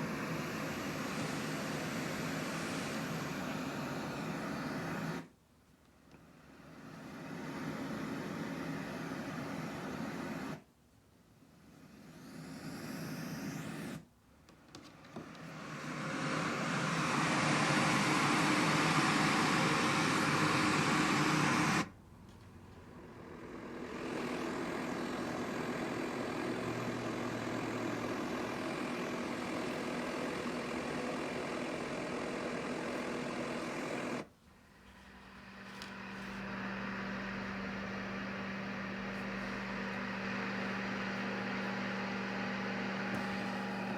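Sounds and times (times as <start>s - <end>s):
sleep machine white noise: 0.0s - 43.9s.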